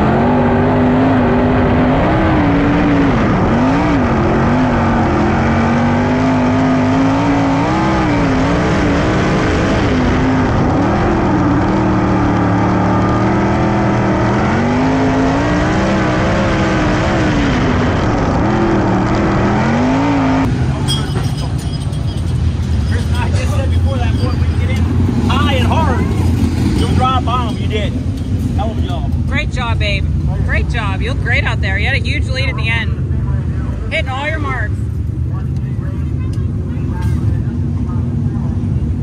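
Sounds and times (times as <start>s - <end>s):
racing engine revving: 0.0s - 20.9s, 21.7s - 39.0s
engines running hard: 0.0s - 39.0s.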